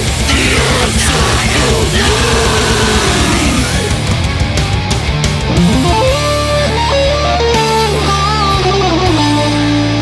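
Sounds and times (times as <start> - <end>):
death metal music: 0.0 - 10.0.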